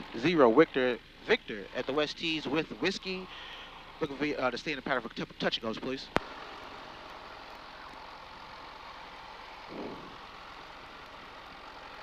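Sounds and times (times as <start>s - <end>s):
aircraft engine idling: 0.0s - 12.0s.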